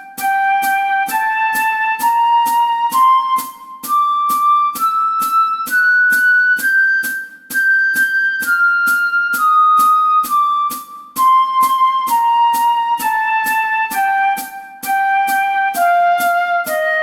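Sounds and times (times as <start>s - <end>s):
flute playing a slow scale: 0.0s - 17.0s
steady clicking beat: 0.0s - 17.0s.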